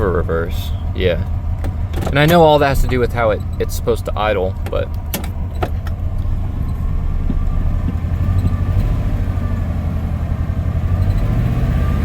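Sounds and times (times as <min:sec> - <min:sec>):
truck engine rough idle: 0:00.0 - 0:11.2.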